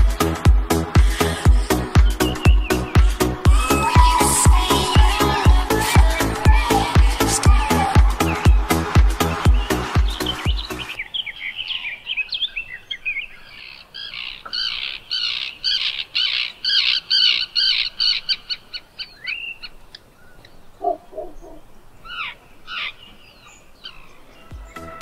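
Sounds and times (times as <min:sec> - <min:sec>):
birds chirping: 0:00.0 - 0:25.0
harsh bird calls: 0:01.0 - 0:24.9.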